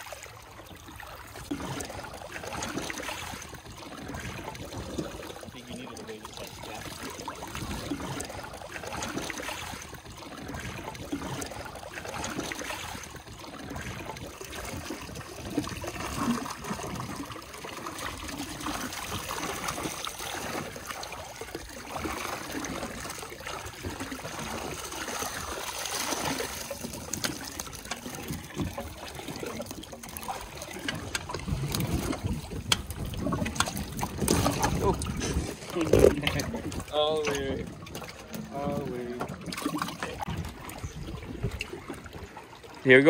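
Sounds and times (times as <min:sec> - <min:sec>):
water streaming off mesh: 0:00.0 - 0:42.2
water splashing and trickling: 0:00.0 - 0:43.0.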